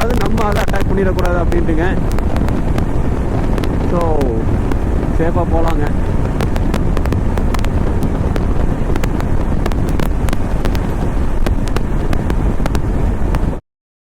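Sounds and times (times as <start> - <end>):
motorcycle road noise: 0.0 - 13.6
wind buffeting microphone: 0.0 - 13.6.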